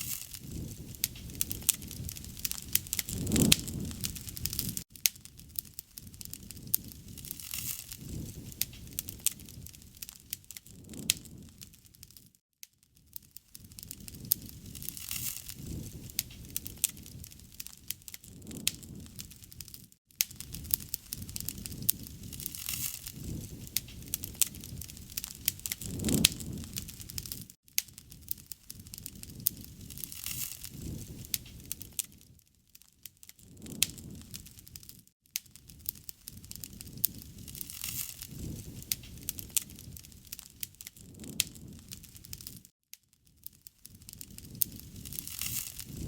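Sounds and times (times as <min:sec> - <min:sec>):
low rumble of burning: 0:00.0 - 0:46.0
wood fire crackling: 0:00.0 - 0:46.0.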